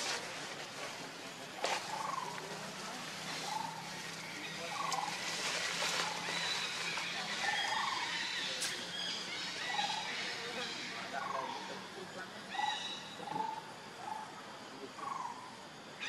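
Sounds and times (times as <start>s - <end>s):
chirping animal calls: 1.7s - 16.0s.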